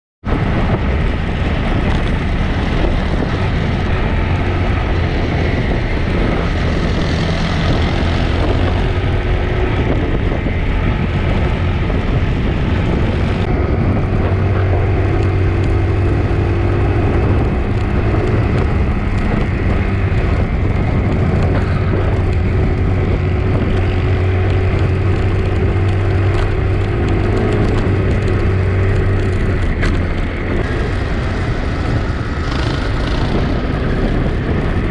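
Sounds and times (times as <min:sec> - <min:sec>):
motorcycle engine drone: 0:00.2 - 0:34.9
wind and road hiss: 0:00.3 - 0:34.9.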